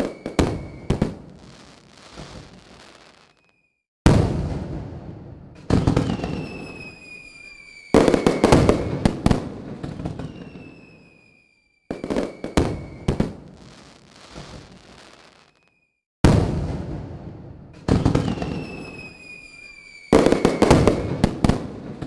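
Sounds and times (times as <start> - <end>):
falling firework whistles: 0.0 - 3.8, 5.7 - 16.0, 17.8 - 22.0
fireworks bangs and crackle: 0.0 - 22.0.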